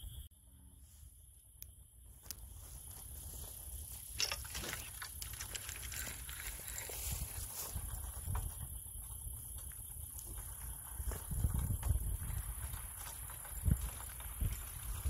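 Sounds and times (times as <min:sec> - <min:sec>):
high-pitched insect drone: 0:00.0 - 0:12.4
rustles and clicks: 0:02.2 - 0:15.0.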